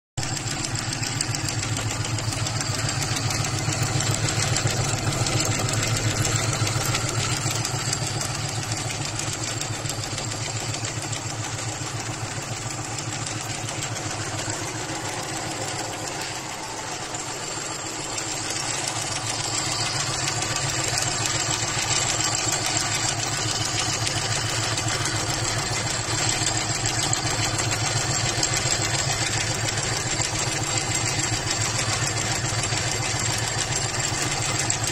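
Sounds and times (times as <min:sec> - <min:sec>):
embroidery machine needle clatter: 0:00.2 - 0:34.9.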